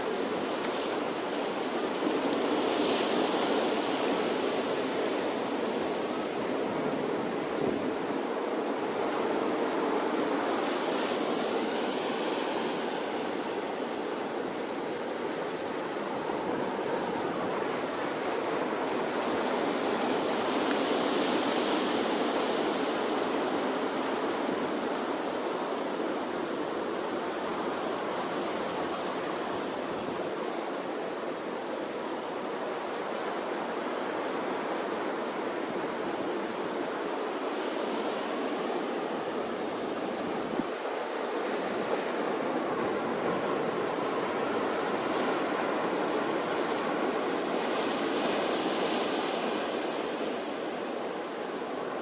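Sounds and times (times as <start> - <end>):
ocean waves washing onto shore: 0.0 - 52.0.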